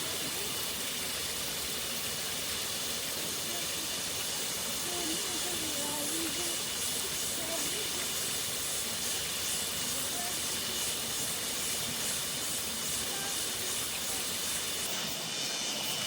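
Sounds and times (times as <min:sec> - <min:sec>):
insects droning: 0:00.0 - 0:16.0
waterfall hissing: 0:00.0 - 0:16.0.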